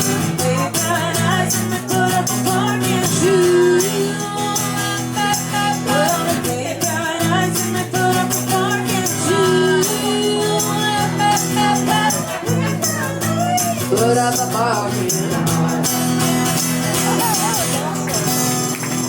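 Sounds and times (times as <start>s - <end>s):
person singing: 0.0s - 18.6s
guitar and bass chords: 0.0s - 19.0s
tambourine shaking: 0.0s - 19.0s.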